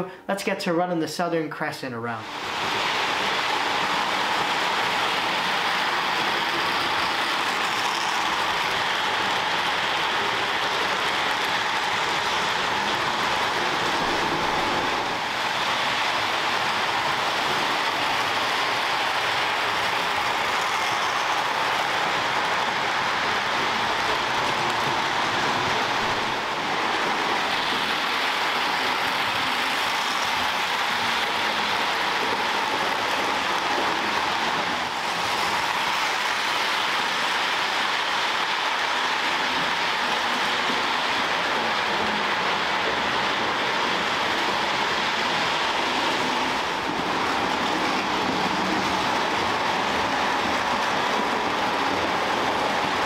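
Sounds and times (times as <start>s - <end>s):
model train wheels whirring on rails: 2.2s - 53.0s.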